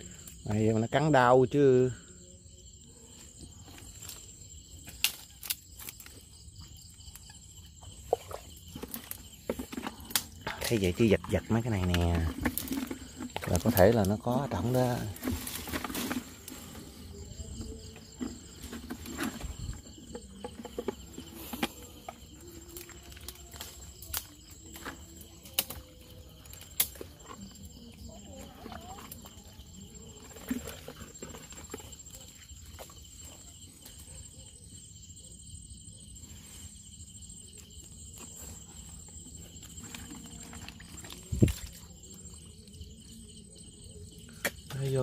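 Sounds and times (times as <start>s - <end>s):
insects chirping trill: 0.0s - 45.0s.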